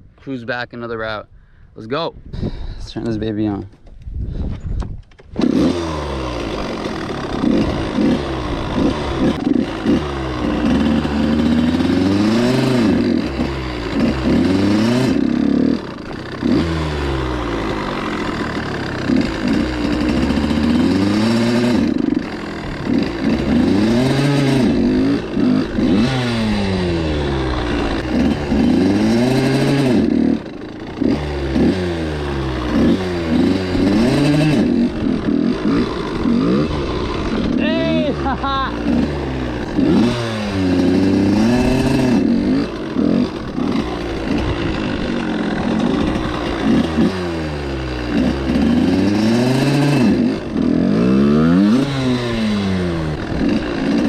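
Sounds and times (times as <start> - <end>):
dirt bike engine revving: 5.2 - 54.0.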